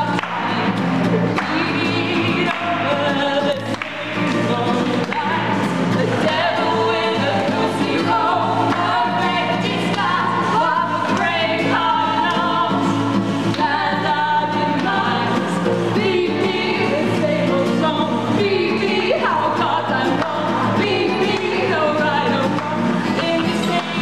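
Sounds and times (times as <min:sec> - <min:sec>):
acoustic guitar: 0:00.0 - 0:24.0
women singing together: 0:00.0 - 0:24.0.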